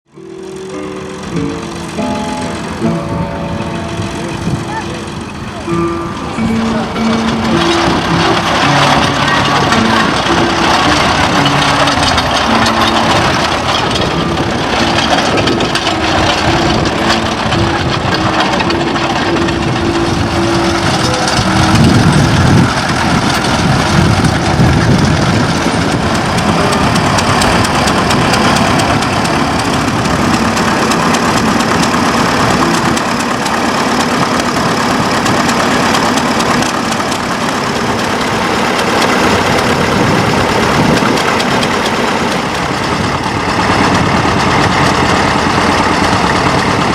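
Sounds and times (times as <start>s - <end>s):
tractor engines running: 0.0s - 46.9s.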